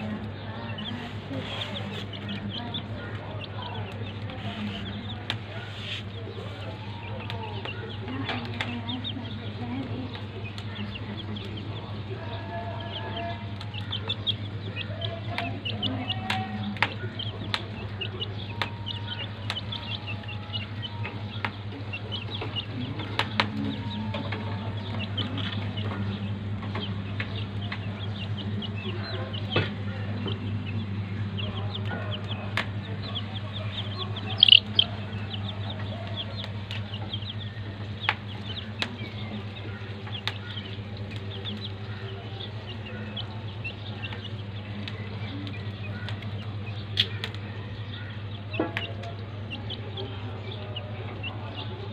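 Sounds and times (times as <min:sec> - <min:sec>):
chicks peeping: 0:00.0 - 0:51.9
steady low hum: 0:00.0 - 0:51.9.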